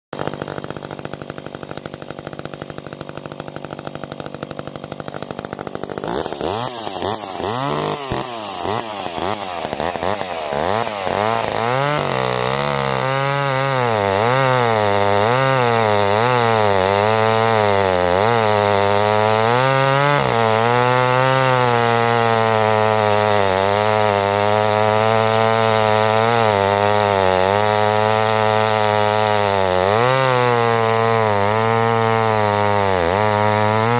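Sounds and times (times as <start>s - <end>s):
chainsaw cutting a log: 0.1s - 33.9s.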